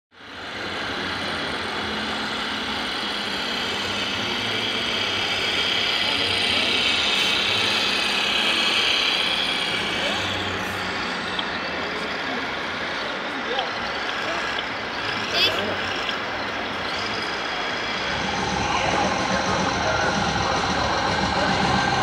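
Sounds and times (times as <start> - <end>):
low engine-like hum: 0.1 - 22.0
murmur of voices: 0.2 - 22.0.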